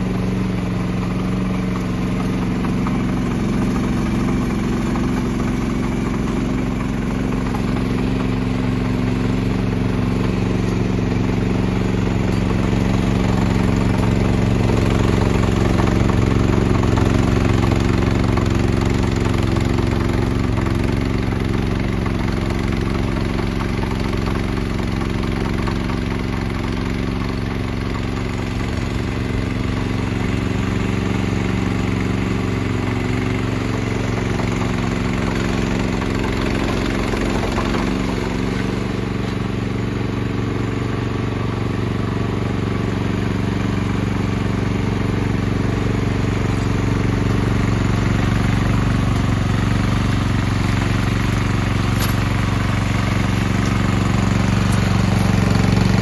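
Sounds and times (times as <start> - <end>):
snow blower engine running: 0.0 - 56.0.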